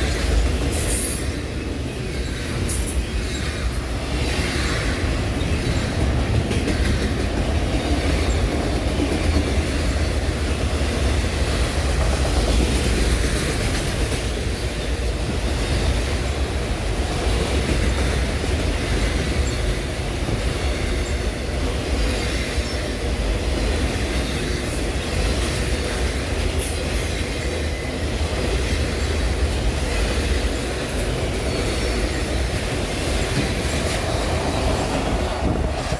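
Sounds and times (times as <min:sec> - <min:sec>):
freight train cars rolling: 0:00.0 - 0:35.9.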